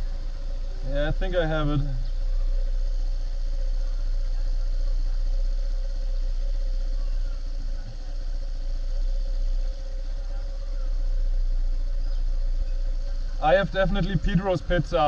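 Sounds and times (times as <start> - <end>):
motorbike engine idling: 0.0 - 15.0.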